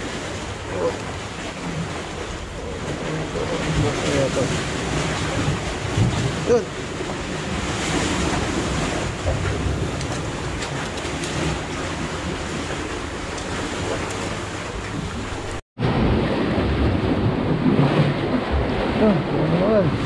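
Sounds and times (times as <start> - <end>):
sea water surging through blocks: 0.0 - 20.0
wind on microphone: 0.0 - 20.0.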